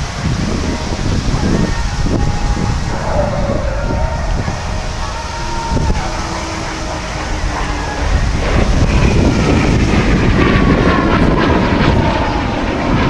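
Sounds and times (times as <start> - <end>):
jet engine whine: 0.0 - 13.0
jet flying overhead: 0.0 - 13.0.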